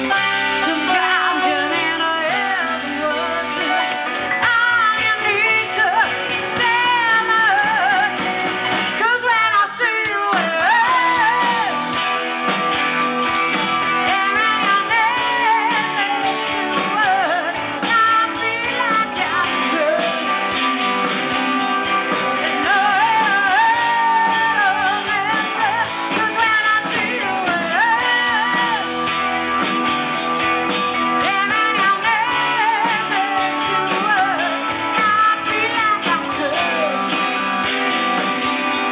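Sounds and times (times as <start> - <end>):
live rock band playing: 0.0 - 38.9
woman singing lead: 0.0 - 38.9.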